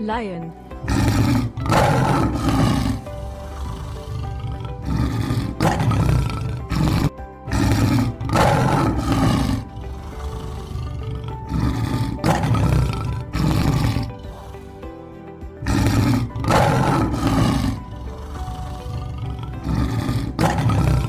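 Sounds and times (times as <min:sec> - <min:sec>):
background music: 0:00.0 - 0:21.0
lion roaring: 0:00.8 - 0:15.0, 0:15.6 - 0:21.0.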